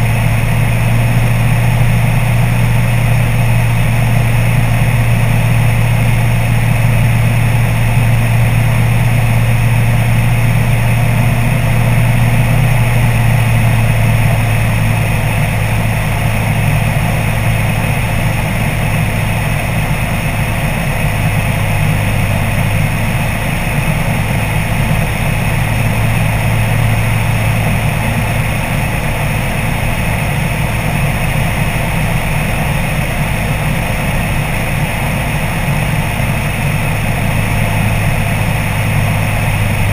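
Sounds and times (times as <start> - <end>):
engine and propeller droning: 0.0 - 39.9.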